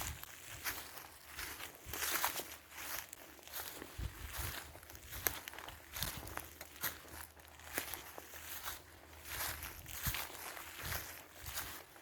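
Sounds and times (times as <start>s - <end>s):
footsteps crunching on forest floor: 0.0s - 12.0s.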